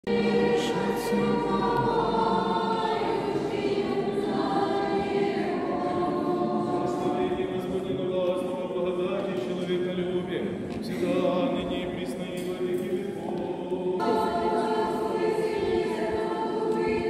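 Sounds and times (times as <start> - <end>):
congregation singing unaccompanied: 0.0 - 17.0.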